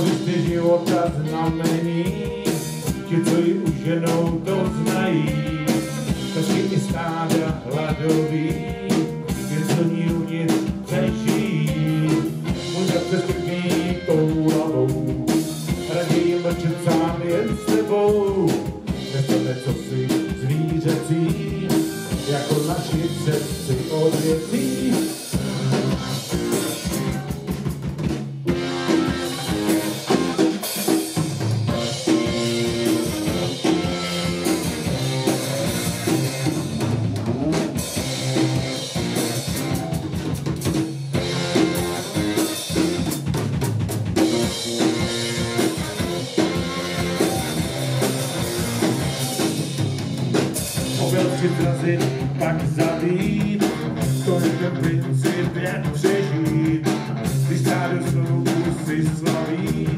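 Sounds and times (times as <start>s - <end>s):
live rock band instrumental: 0.0s - 59.9s.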